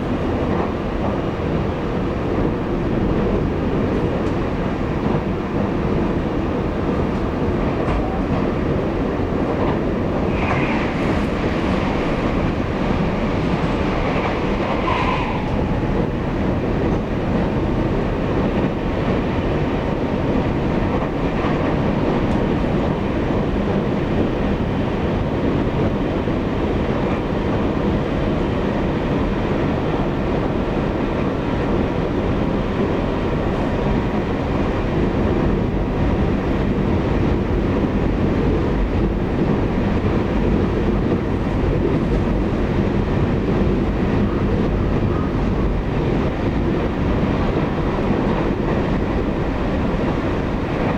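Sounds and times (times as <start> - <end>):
train wheels rumbling on track: 0.0 - 50.9.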